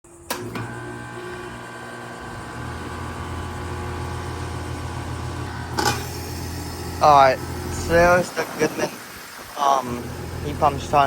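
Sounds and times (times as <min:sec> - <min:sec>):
heat pump steady hum: 0:00.1 - 0:11.0
deeper hum: 0:00.2 - 0:11.0.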